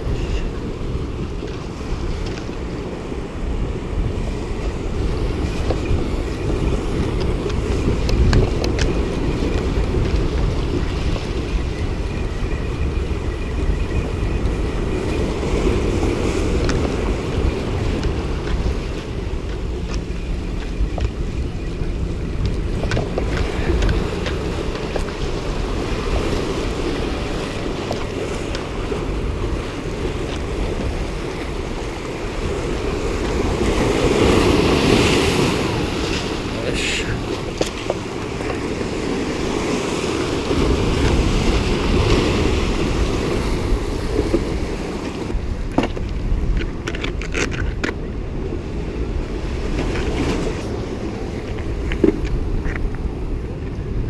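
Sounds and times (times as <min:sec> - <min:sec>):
surf on rocks: 0:00.0 - 0:54.0
wind on microphone: 0:00.0 - 0:54.0.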